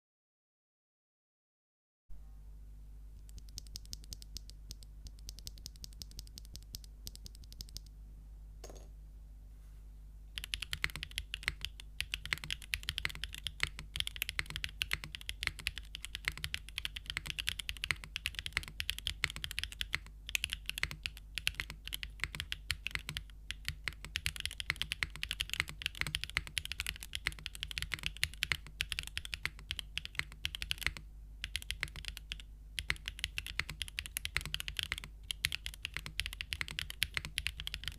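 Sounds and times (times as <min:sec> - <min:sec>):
faint low hum: 0:02.1 - 0:37.9
mechanical keyboard typing: 0:03.3 - 0:07.9, 0:10.4 - 0:37.9.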